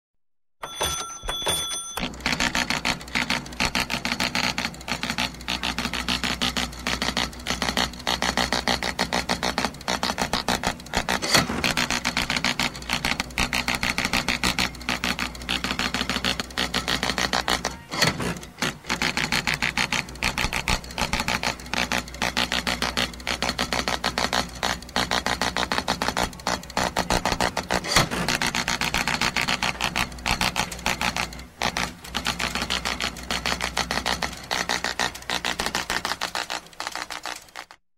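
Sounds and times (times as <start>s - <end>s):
dot matrix printer printing: 0.6s - 37.8s.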